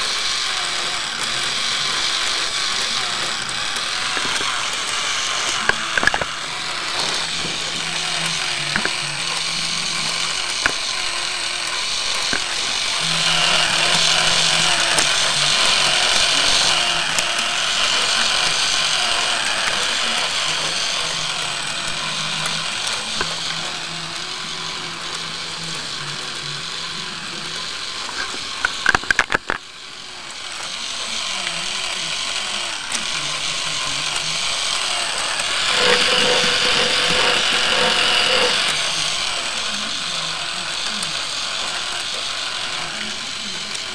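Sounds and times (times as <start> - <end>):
plastic engine model rattling: 0.0 - 26.9, 27.6 - 43.9.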